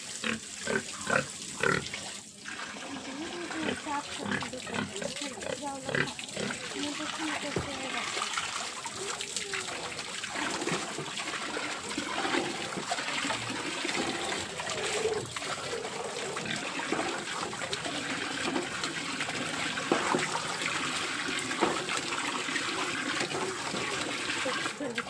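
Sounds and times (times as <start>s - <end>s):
water splashing and trickling: 0.0s - 25.0s.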